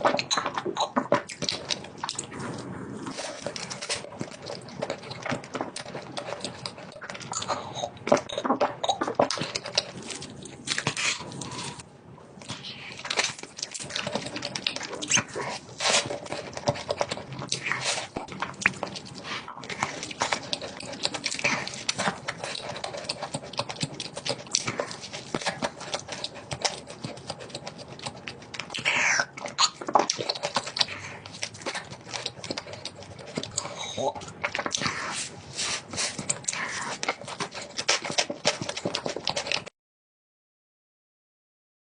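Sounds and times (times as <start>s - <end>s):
dog chewing and crunching food: 0.0s - 39.7s.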